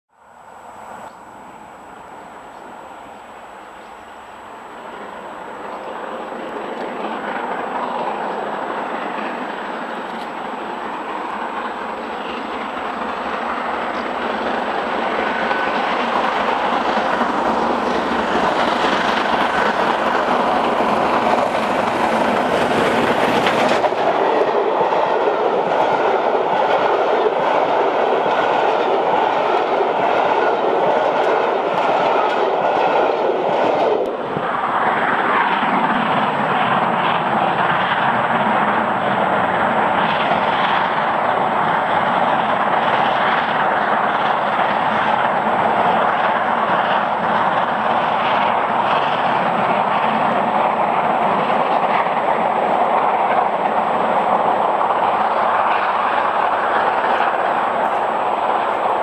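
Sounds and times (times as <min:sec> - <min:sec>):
steam locomotive working hard: 0:00.3 - 0:59.0
train wheels clacking over rail joints: 0:04.9 - 0:59.0.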